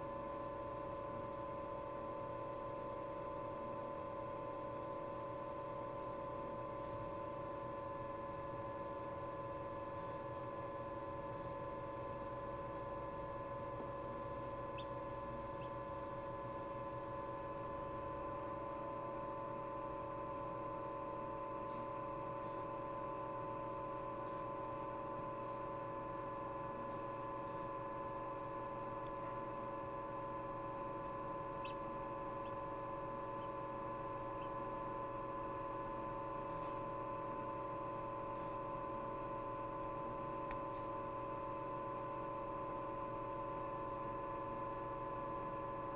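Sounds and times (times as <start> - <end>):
egg incubator humming: 0.0 - 45.9.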